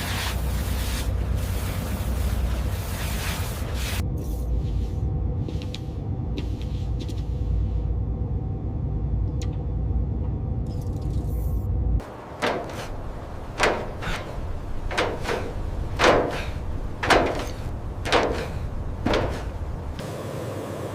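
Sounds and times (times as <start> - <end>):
low rumble with hum: 0.1 - 20.9.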